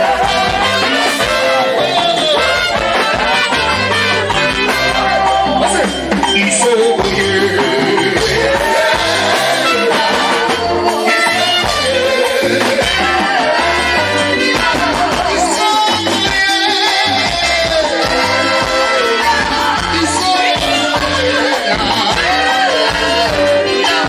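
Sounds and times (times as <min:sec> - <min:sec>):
live gospel band music: 0:00.0 - 0:24.0.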